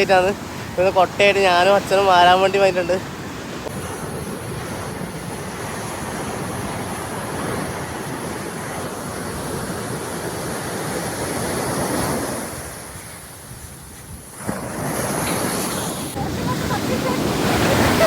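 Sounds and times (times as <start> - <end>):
sea surf washing onto beach: 0.0 - 18.0
wind on microphone: 0.0 - 18.0.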